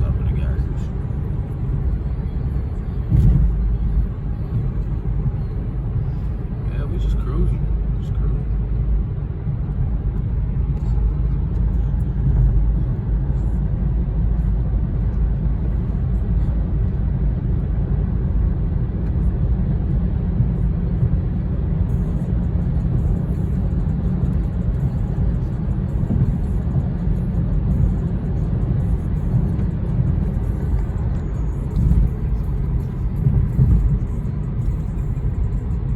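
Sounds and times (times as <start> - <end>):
car interior road and engine rumble: 0.0 - 35.9.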